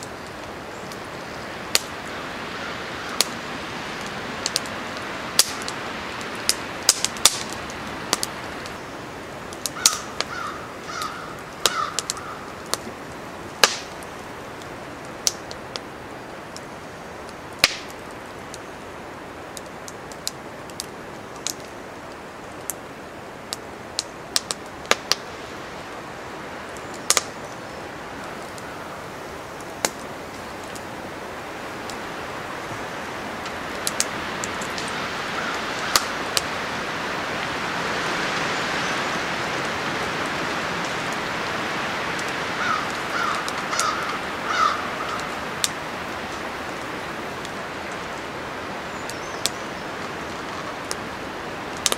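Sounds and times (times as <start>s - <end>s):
kindling fire crackling: 0.0s - 51.9s
windy hiss: 0.0s - 51.9s.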